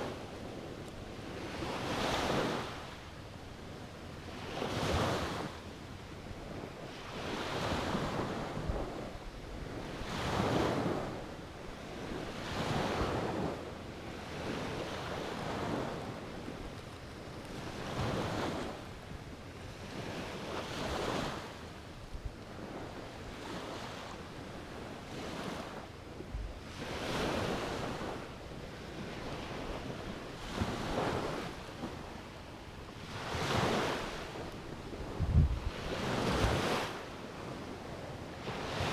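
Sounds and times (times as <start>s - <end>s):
wind on microphone: 0.0s - 38.9s
small waves breaking: 6.4s - 21.9s, 22.5s - 38.9s.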